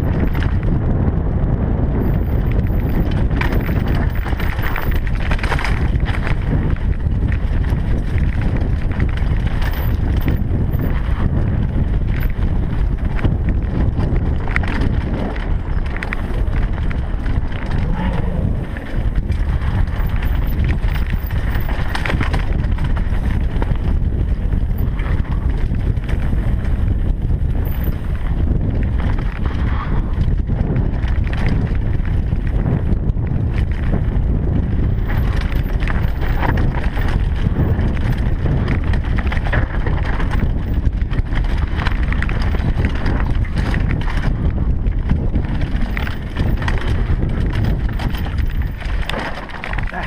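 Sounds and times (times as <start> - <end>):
mountain bike rattling: 0.0 - 50.0
wind buffeting microphone: 0.0 - 50.0
tyres crunching on rocky dirt: 1.9 - 50.0.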